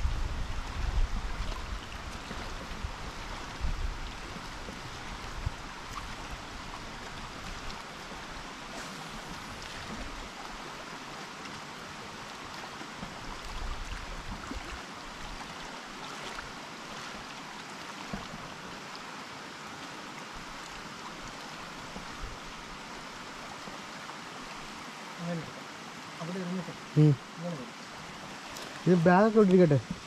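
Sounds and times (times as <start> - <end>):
water and air rushing: 0.0 - 30.0.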